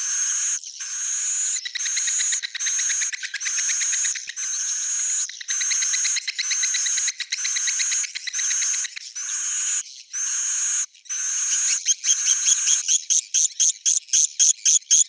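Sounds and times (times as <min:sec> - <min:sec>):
swiftlet chattering twitter: 0:00.0 - 0:12.8
bird chirps: 0:00.0 - 0:15.0.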